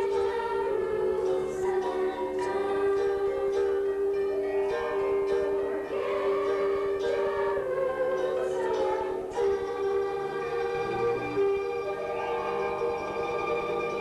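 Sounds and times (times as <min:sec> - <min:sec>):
instrumental music with held chords: 0:00.0 - 0:14.0.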